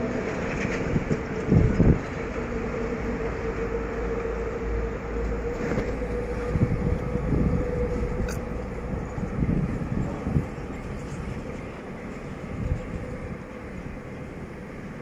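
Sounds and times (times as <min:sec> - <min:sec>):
train rumbling across bridge: 0:00.0 - 0:15.0.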